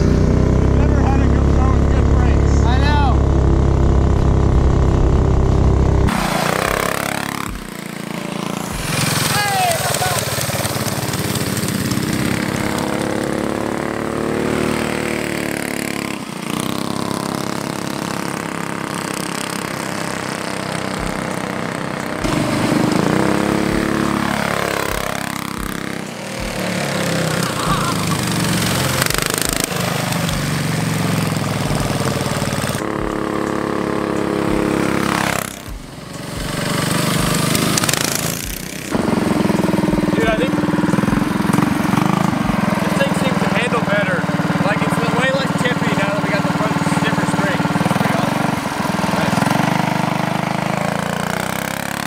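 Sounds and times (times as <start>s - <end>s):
small engines revving past: 0.0s - 52.0s.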